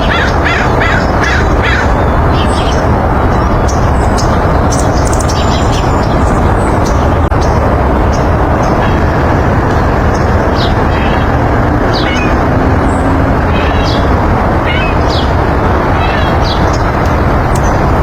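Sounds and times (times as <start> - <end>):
bird chirping: 0.0 - 9.1, 9.7 - 17.9
loud steady rushing rumble: 0.0 - 18.0.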